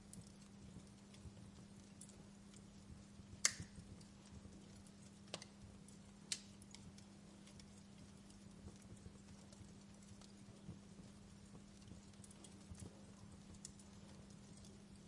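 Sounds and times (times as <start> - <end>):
fire crackling and popping: 0.0 - 15.0
low steady hum: 0.0 - 15.0.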